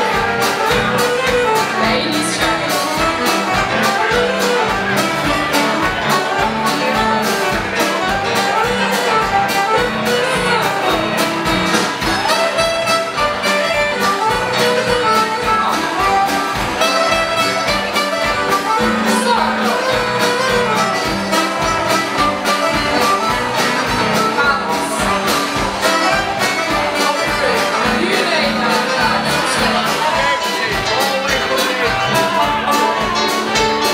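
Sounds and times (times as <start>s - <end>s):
folk dance band playing: 0.0s - 33.9s
saxophone: 0.0s - 33.9s.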